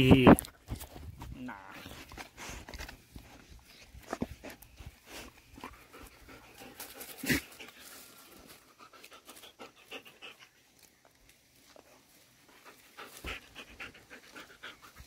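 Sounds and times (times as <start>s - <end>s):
dogs panting: 2.0s - 10.8s, 11.7s - 15.0s.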